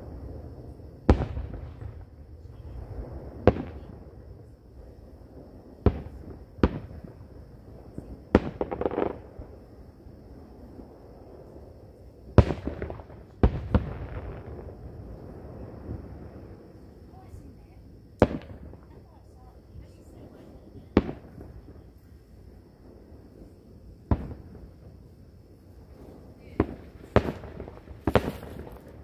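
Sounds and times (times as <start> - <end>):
distant fireworks bangs: 0.0 - 29.0
fireworks crackle: 0.0 - 29.0.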